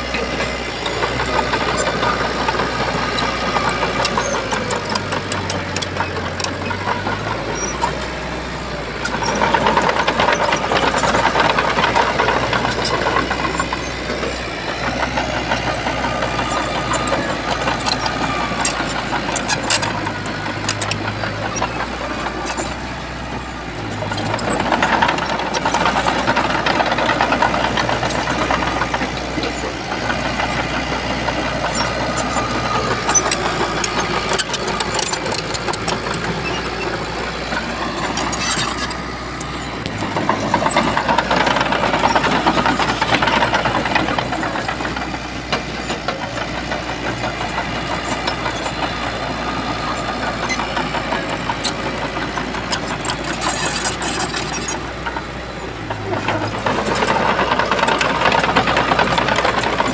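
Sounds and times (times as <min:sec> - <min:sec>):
bulldozer diesel engine clattering: 0:00.0 - 0:59.9.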